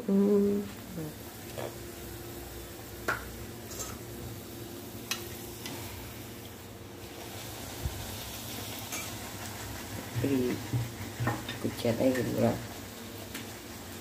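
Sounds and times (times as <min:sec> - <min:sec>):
deep-frying sizzle in oil: 0:00.3 - 0:14.0.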